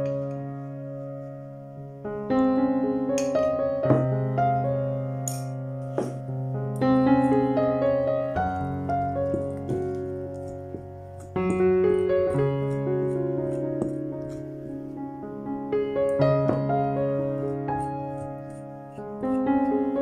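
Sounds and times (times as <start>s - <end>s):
piano chords ringing: 0.0s - 20.0s.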